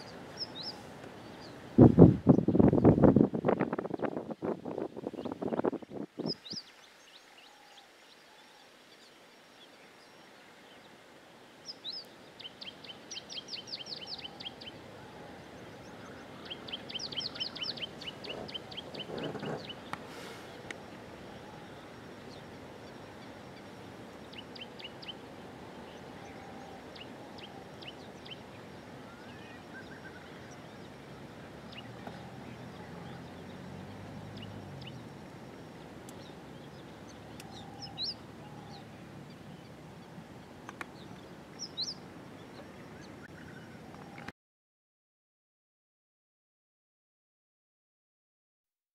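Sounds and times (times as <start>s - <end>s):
wild birds calling: 0.0s - 3.0s, 5.1s - 44.3s
outdoor background noise: 0.0s - 44.3s.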